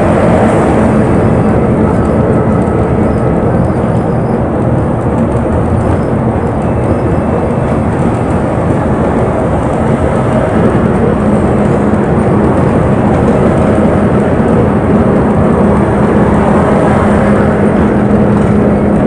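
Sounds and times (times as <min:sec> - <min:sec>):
bus engine drone: 0:00.0 - 0:19.0
road rumble: 0:00.0 - 0:19.0.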